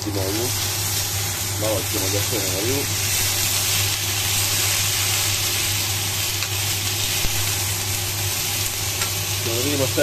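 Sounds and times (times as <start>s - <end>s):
fish sizzling in a frying pan: 0.0s - 10.0s
steady low hum: 0.0s - 10.0s.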